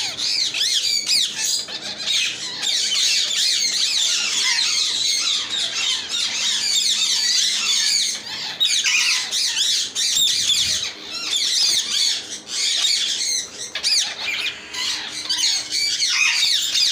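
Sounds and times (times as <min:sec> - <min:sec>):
parrots squawking and chattering: 0:00.0 - 0:16.9.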